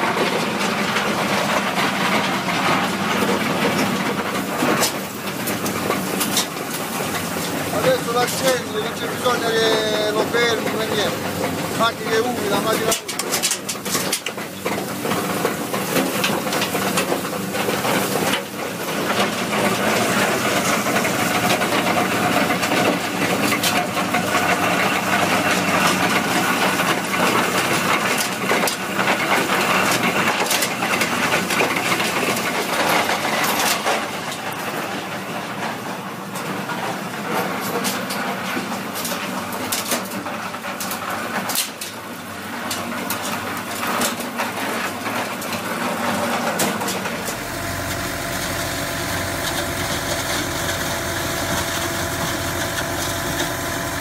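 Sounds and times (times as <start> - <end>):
recycling crusher running: 0.0 - 54.0
rubble cracking and rattling: 0.0 - 54.0.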